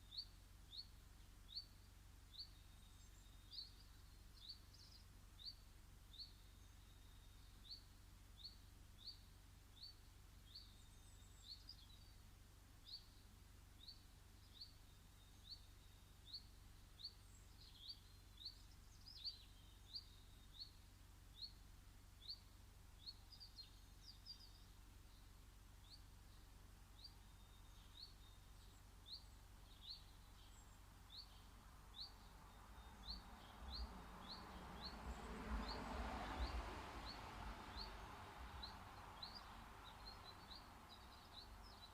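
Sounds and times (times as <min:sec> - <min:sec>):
small bird chirping: 0:00.0 - 0:41.9.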